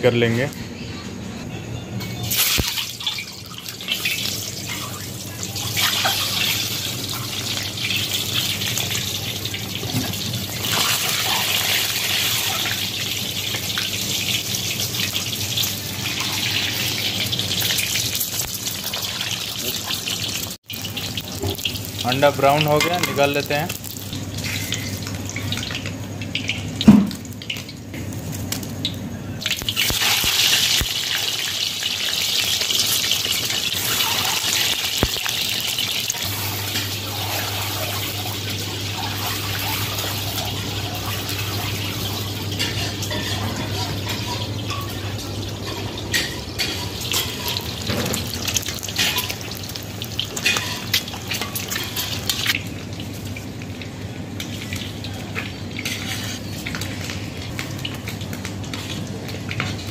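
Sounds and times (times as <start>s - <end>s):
food deep-frying in hot oil: 2.2s - 59.9s.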